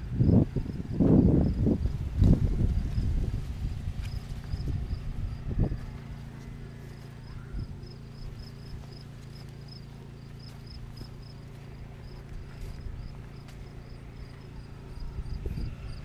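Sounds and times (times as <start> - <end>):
cricket chirping: 0.0 - 2.0, 3.7 - 16.0
low steady rumble: 0.0 - 16.0.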